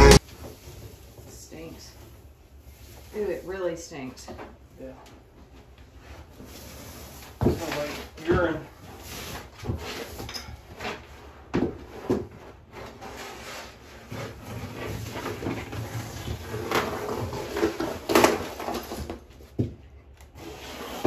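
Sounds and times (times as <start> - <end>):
vinyl flooring scraping and crackling: 0.0 - 4.6, 5.2 - 21.0.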